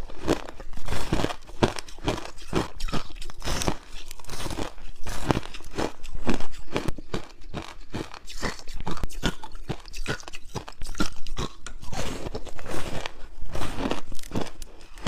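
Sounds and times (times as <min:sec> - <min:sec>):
frozen ice crunching when chewed: 0:00.0 - 0:15.0.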